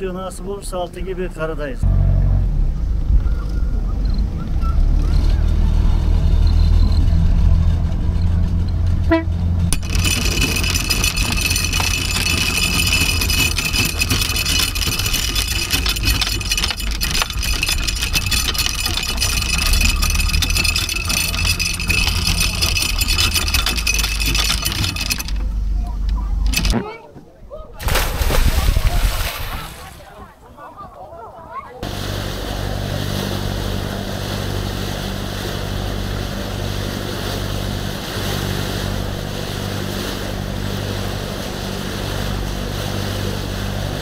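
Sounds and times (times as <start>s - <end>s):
boat engine droning: 0.0s - 26.9s, 31.8s - 44.0s.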